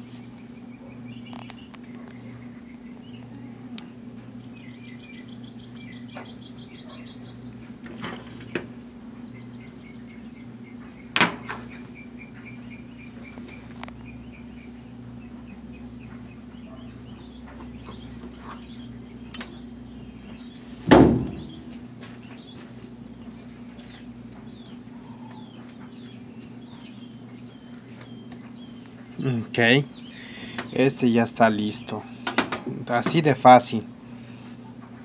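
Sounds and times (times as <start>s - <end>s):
birds chirping: 0.0s - 35.0s
steady low hum: 0.0s - 35.0s.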